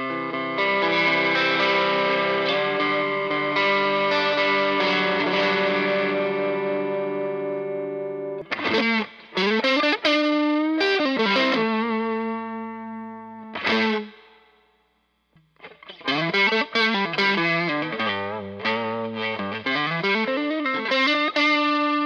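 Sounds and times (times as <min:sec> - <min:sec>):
distorted electric guitar: 0:00.0 - 0:14.6, 0:15.4 - 0:22.0.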